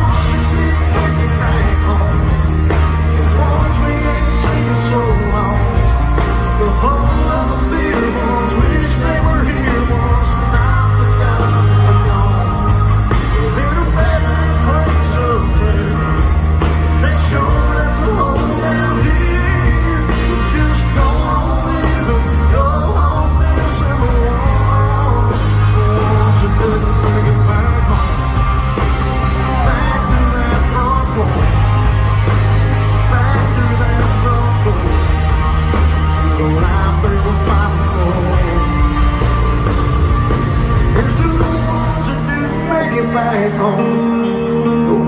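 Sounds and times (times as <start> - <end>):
live country band playing: 0.0 - 45.0
person singing: 0.0 - 45.0.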